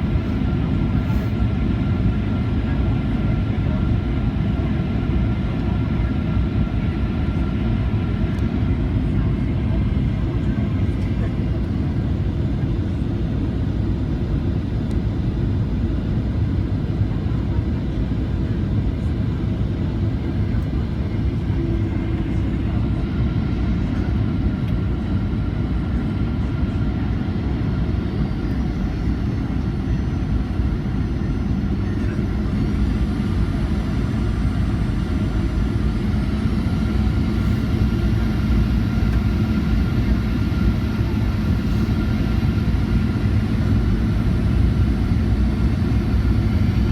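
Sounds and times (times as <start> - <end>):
aircraft cabin engine rumble: 0.0 - 46.9.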